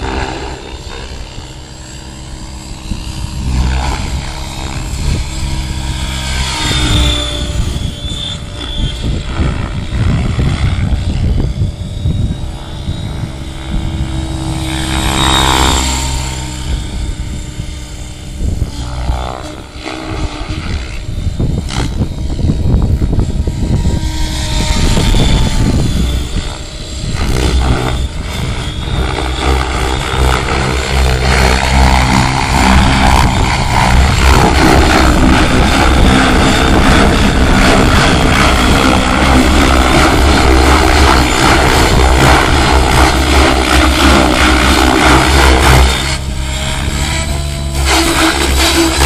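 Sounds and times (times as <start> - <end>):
rc helicopter rotor and motor whine: 0.0 - 49.0.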